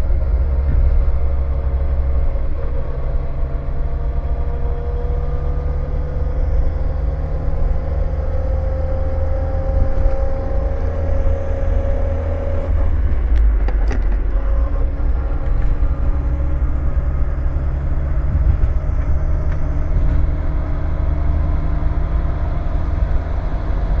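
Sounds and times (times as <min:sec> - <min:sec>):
gearbox whining: 0:00.0 - 0:23.2
car low rumble: 0:00.0 - 0:24.0.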